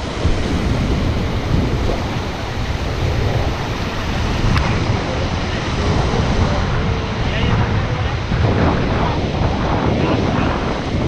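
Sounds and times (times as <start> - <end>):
river water rushing: 0.0 - 11.0
wind buffeting microphone: 0.0 - 11.0.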